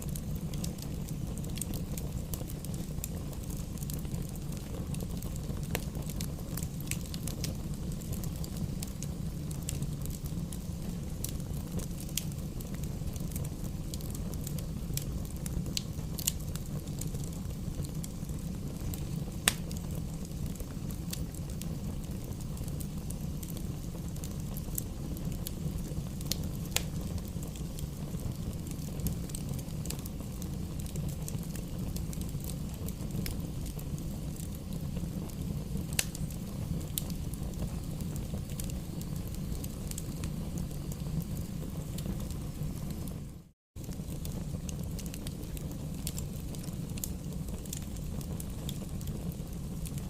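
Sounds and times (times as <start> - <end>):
fire crackling and popping: 0.0 - 50.0
fire low rumble: 0.0 - 50.0.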